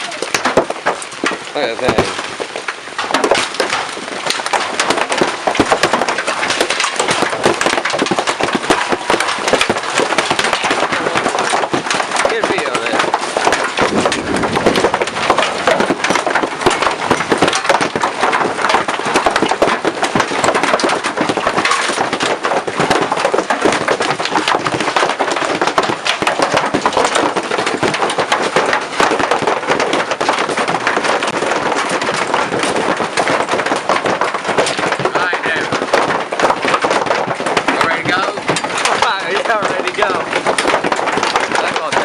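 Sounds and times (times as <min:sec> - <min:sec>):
large hailstones clattering: 0:00.0 - 0:42.0.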